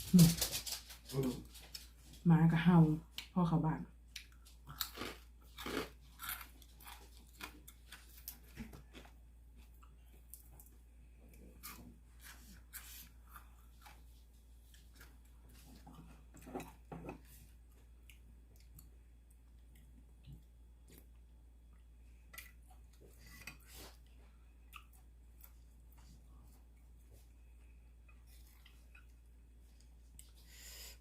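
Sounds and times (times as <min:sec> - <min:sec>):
chewing: 0:04.1 - 0:30.5.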